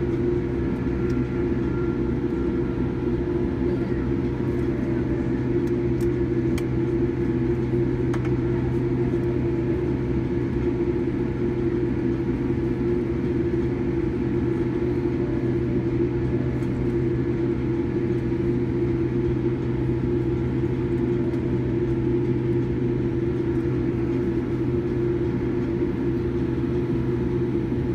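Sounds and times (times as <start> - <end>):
airplane cabin hum: 0.0 - 27.9.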